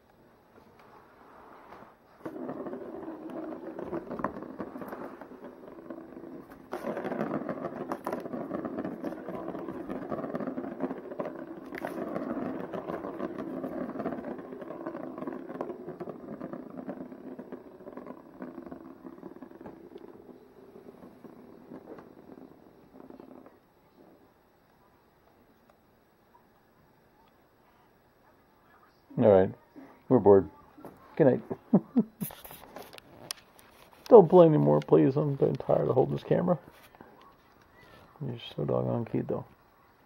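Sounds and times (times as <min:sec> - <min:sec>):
plastic ball rolling rattle: 0:00.8 - 0:24.6, 0:30.2 - 0:39.6.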